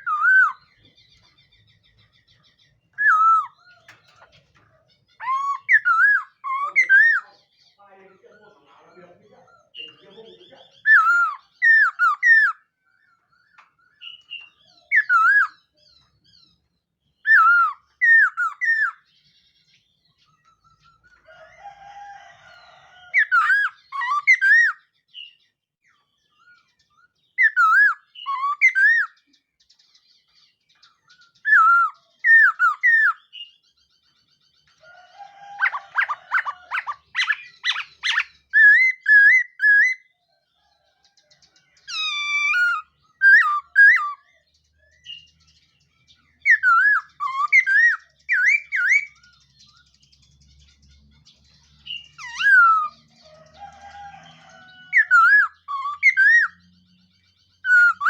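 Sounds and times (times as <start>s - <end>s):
bird whistled song: 0.0s - 4.3s, 5.0s - 7.7s, 9.7s - 40.1s, 41.8s - 50.0s, 51.8s - 58.0s.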